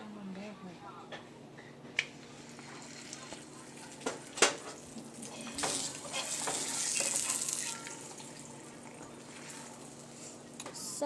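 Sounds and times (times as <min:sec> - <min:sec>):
food frying and sizzling: 0:02.1 - 0:11.0.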